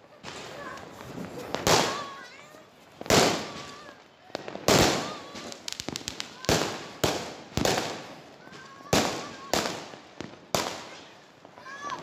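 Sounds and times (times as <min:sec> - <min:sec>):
firecrackers cracking: 0:00.0 - 0:12.0
fireworks loud bangs: 0:00.1 - 0:12.0.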